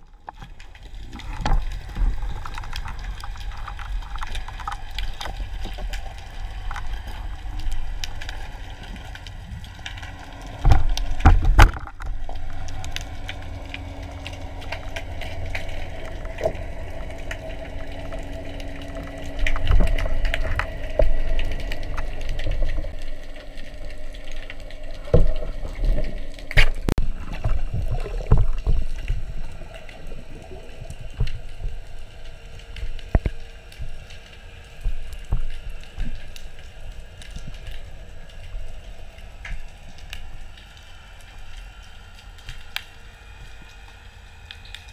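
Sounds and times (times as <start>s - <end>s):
faint steady hum: 0.0s - 44.9s
underwater watery rush: 0.0s - 44.9s.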